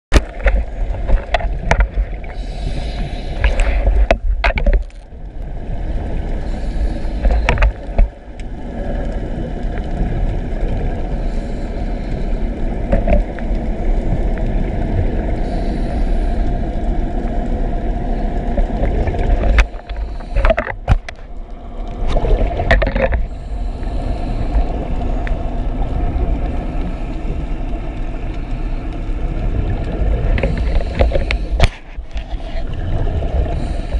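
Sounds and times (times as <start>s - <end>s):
muffled underwater rumble: 0.1s - 33.9s.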